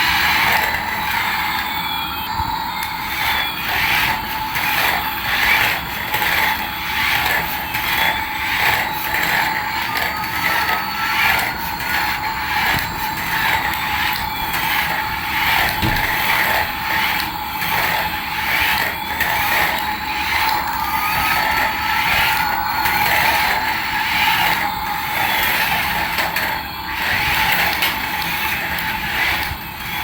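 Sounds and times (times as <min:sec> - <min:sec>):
battery-powered toy whining: 0:00.0 - 0:30.0.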